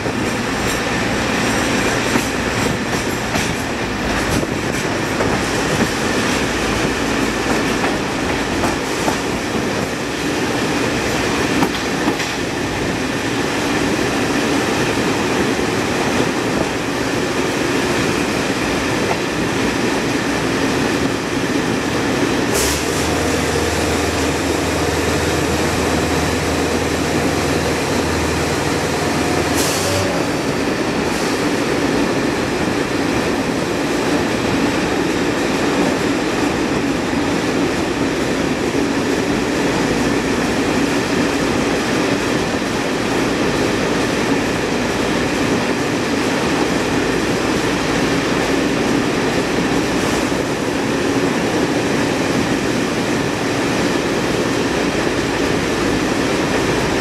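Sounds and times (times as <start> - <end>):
train running through tunnel: 0.0 - 57.0.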